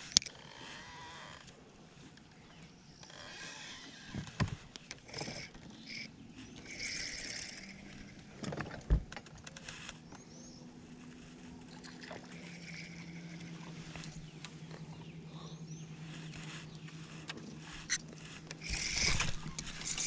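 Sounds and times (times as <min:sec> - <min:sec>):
electric trolling motor humming: 0:00.0 - 0:20.0.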